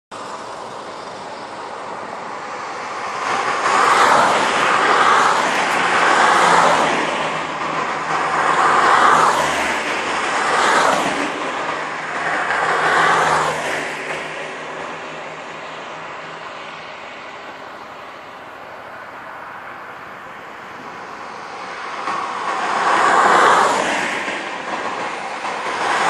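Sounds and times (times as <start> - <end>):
cars passing close by: 0.1 - 26.0.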